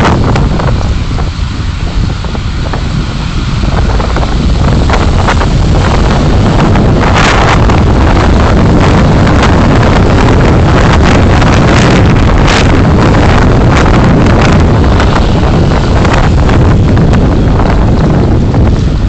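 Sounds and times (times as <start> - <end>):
road rumble from moving car: 0.0 - 19.0
wind buffeting: 0.0 - 19.0.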